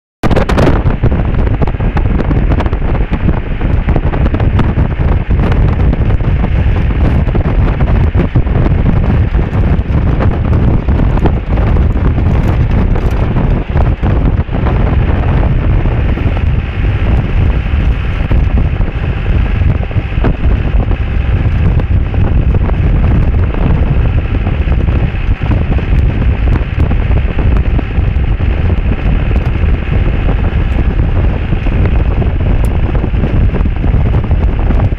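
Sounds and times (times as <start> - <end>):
vehicle running noise: 0.2 - 34.9
wind buffeting microphone: 0.2 - 34.9.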